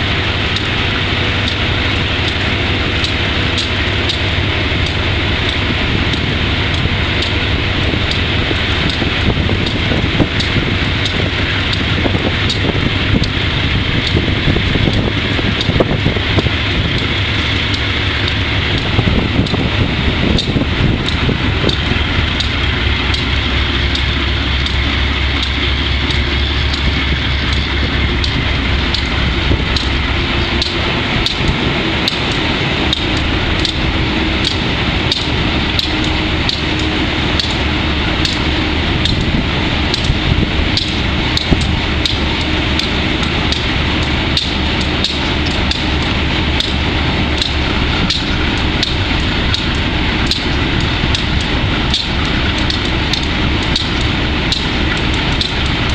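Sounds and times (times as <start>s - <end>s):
diesel locomotive engine running: 0.0s - 55.9s
sharp ticking: 0.0s - 55.9s.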